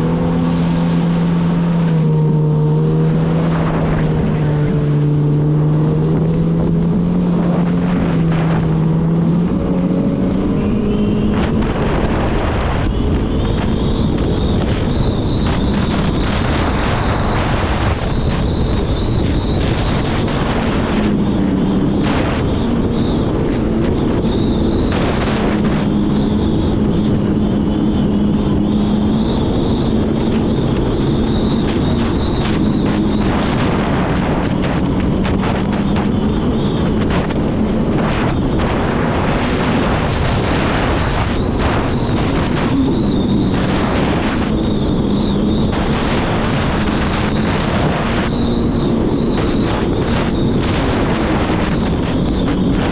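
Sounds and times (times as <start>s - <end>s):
high steady whine: 0.0s - 52.9s
jet ski engine drone: 0.0s - 52.9s
wind buffeting microphone: 0.0s - 52.9s.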